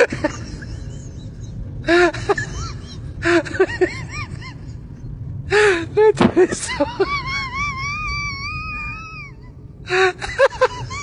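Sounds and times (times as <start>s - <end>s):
subway car rumble: 0.0s - 11.0s.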